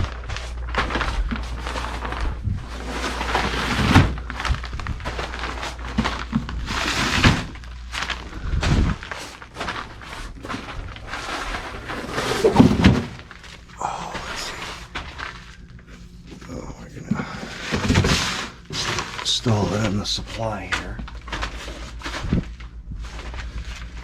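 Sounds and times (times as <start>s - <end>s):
low steady hum: 0.0s - 24.0s
rustling and scraping handling noise: 0.0s - 24.0s.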